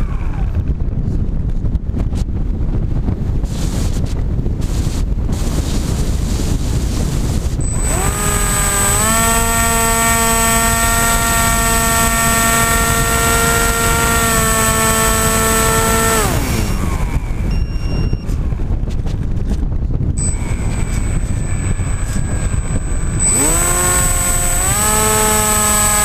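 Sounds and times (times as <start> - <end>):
wind rushing over microphone: 0.0 - 26.0
electric motor hum and whine: 3.0 - 26.0.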